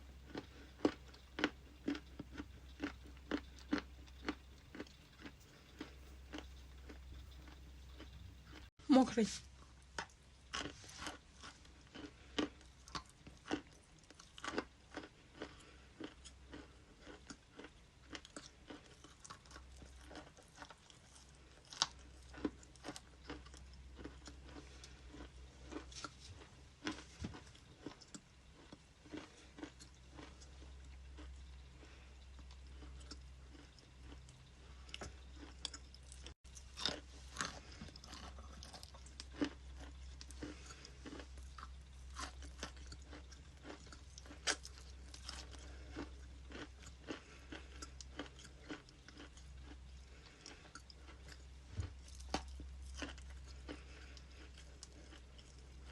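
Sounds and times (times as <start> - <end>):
person chewing ice: 0.0 - 8.7, 9.6 - 55.9.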